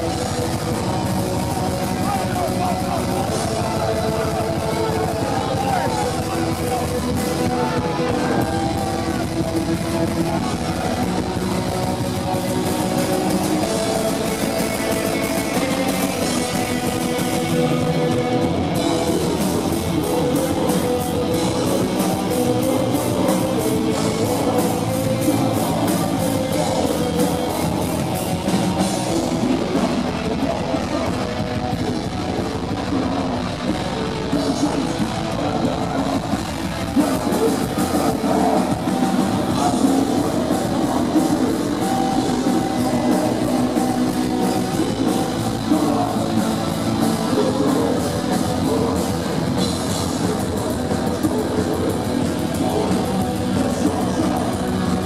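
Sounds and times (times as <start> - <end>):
fast drumming: 0.0 - 55.0
heavy metal band playing live: 0.0 - 55.0.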